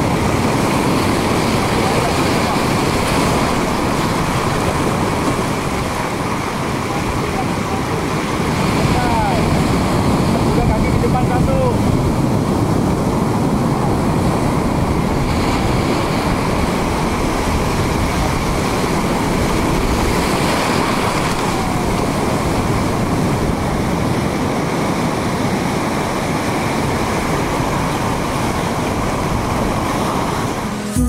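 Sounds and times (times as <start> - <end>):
sea waves breaking over rocks: 0.0 - 31.0.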